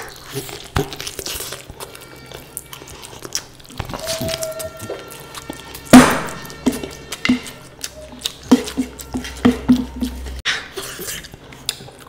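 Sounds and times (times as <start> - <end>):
wet chewing and mouth smacks: 0.0 - 12.0.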